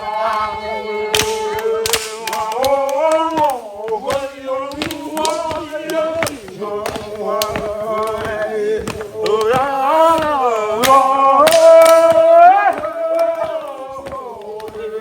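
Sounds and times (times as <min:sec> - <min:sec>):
voices singing: 0:00.0 - 0:15.0
percussion hits: 0:01.1 - 0:15.0.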